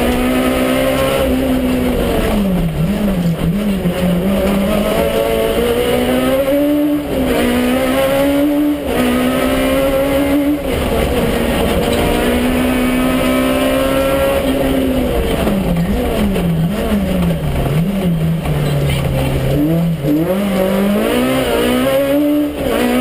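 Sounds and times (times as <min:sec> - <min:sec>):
car engine at full throttle: 0:00.0 - 0:23.0.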